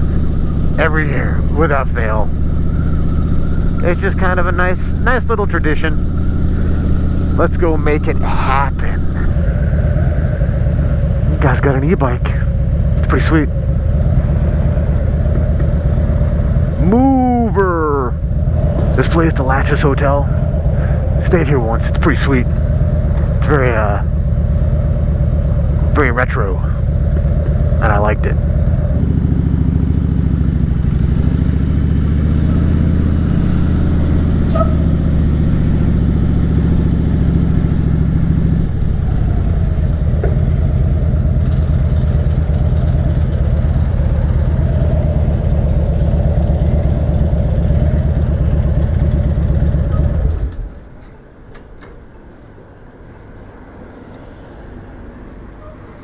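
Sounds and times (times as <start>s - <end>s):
motorcycle engine running: 0.0s - 50.8s.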